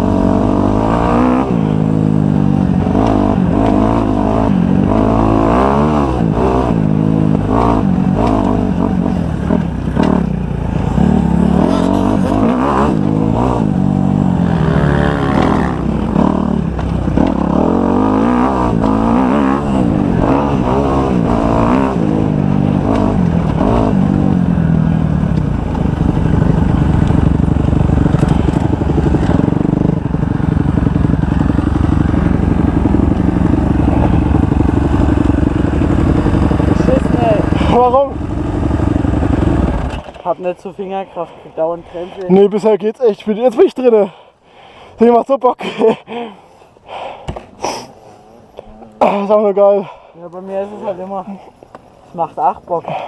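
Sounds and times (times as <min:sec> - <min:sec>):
motocross bike engine revving: 0:00.0 - 0:42.8.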